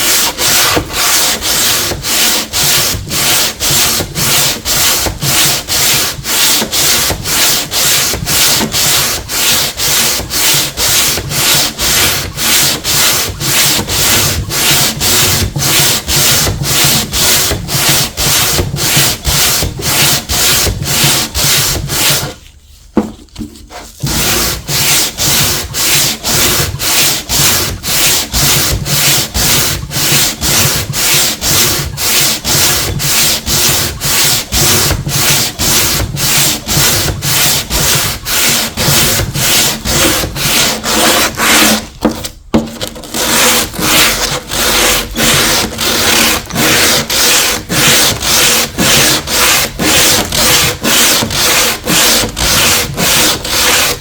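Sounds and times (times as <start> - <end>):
hand tool scraping paint: 0.0 - 54.0.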